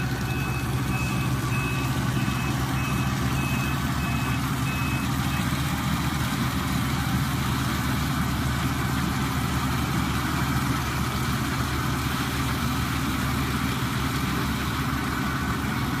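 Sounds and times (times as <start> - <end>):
heavy machine engine idling: 0.0 - 16.0.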